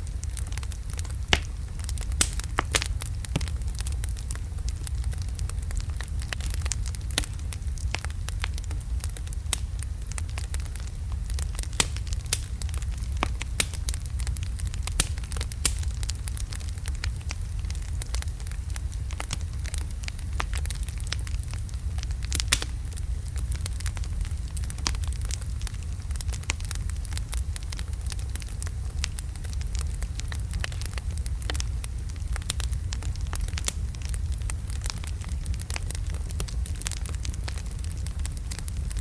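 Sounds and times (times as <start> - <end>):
low rumble of flames: 0.0 - 39.0
wood fire crackling and popping: 0.0 - 39.0.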